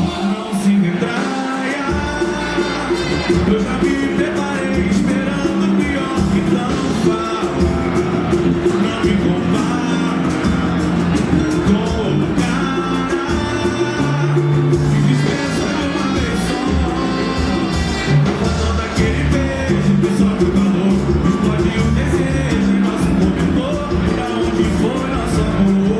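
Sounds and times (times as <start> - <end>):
band playing a song: 0.0 - 25.9
lead vocal singing: 0.0 - 25.9.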